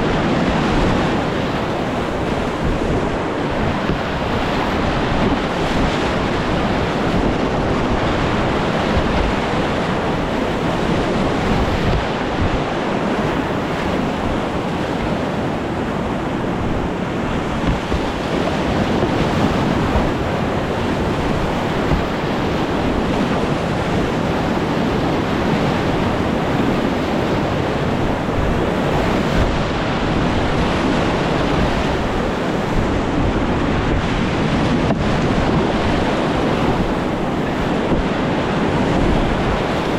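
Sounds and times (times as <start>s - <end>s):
whitewater rapids rushing: 0.0s - 39.9s
wind noise on microphone: 0.0s - 39.9s.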